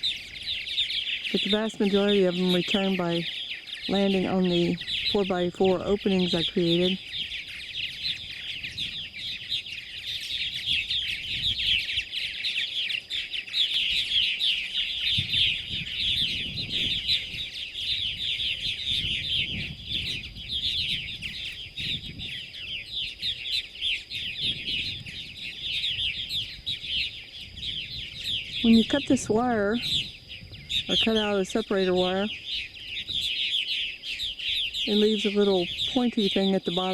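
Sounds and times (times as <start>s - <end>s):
birds chirping and chattering: 0.0s - 36.9s.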